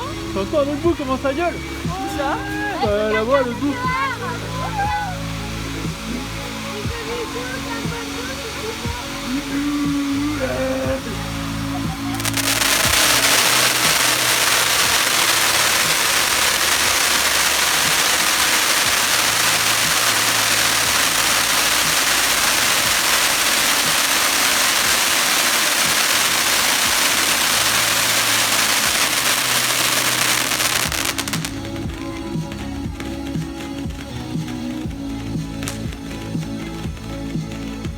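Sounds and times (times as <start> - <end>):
faint music: 0.0 - 37.9
fireworks hissing: 0.0 - 37.9.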